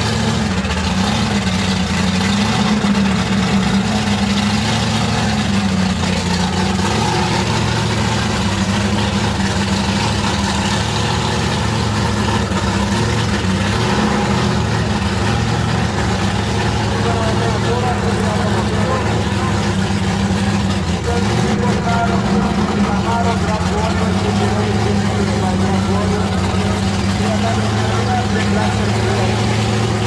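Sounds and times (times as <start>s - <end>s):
drag car engine idling: 0.0s - 30.0s.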